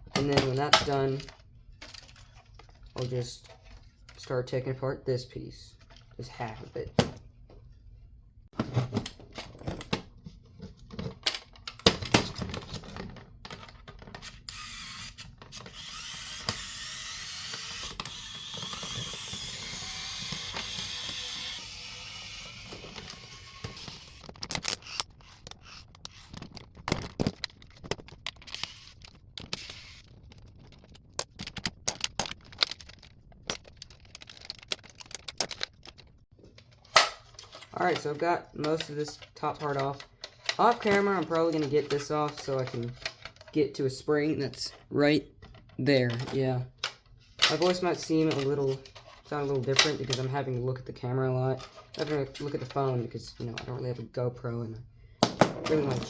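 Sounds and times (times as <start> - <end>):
plastic parts clicking and rattling: 0.0 - 4.4, 8.6 - 43.6, 44.5 - 50.6, 51.4 - 53.9, 55.2 - 56.0.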